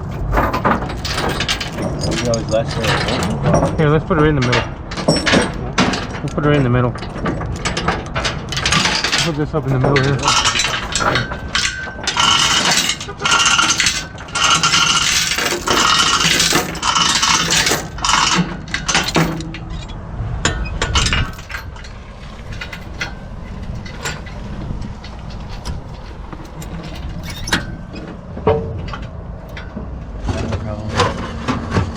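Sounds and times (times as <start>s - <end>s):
metallic clinking and rattling: 0.0s - 30.4s.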